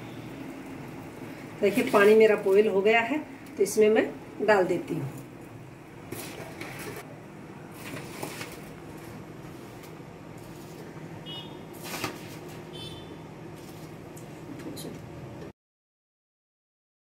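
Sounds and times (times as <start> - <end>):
water at a rolling boil: 0.0 - 15.5.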